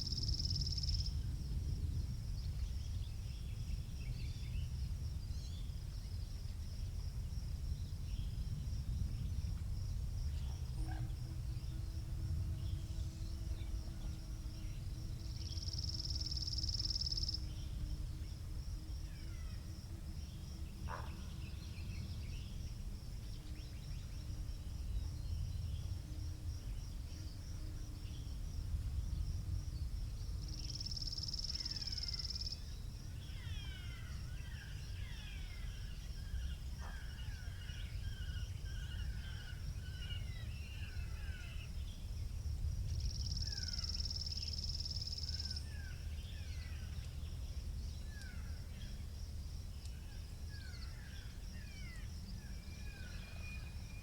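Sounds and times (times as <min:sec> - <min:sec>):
faint distant engine hum: 0:00.0 - 0:54.0
wind rumbling on microphone: 0:00.0 - 0:54.0.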